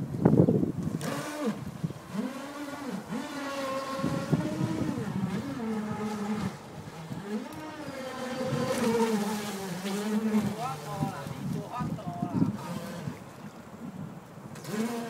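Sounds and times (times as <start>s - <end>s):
model speedboat motor whining: 0.7s - 15.0s.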